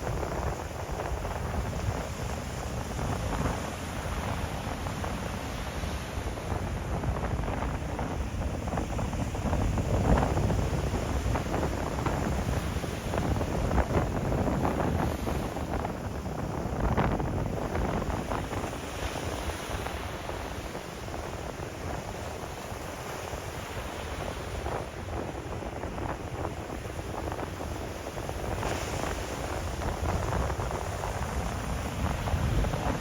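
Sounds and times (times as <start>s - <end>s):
sea waves breaking on shore: 0.0s - 33.0s
wind buffeting microphone: 0.0s - 33.0s.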